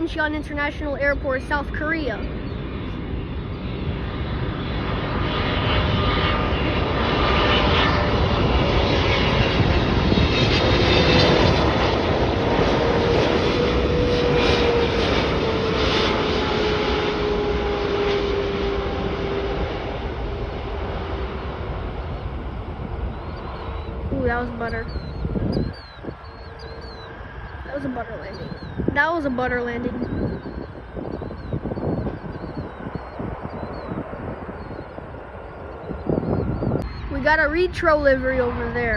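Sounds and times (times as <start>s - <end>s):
jet engine whine falling in pitch: 0.0s - 38.9s
jet engines rushing: 0.0s - 38.9s.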